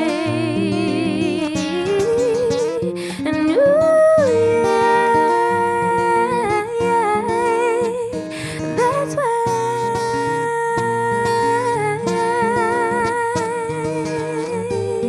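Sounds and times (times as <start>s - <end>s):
acoustic guitar: 0.0s - 15.0s
woman singing wordlessly: 0.0s - 15.0s.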